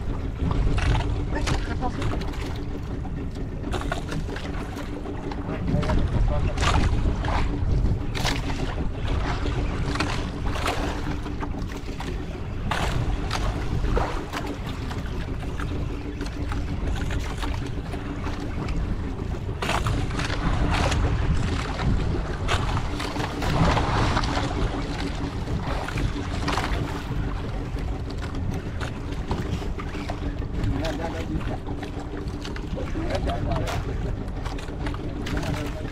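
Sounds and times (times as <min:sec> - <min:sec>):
boat engine running: 0:00.0 - 0:35.9
wind buffeting microphone: 0:00.0 - 0:35.9.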